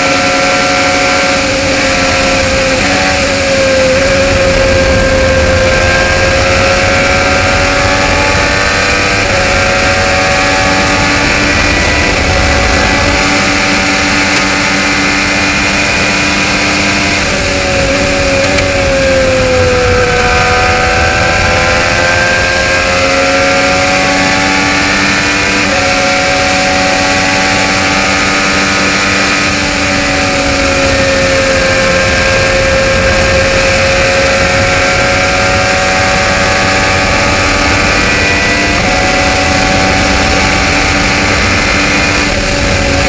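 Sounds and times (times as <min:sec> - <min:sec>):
race car engine at high revs: 0:00.0 - 0:43.0.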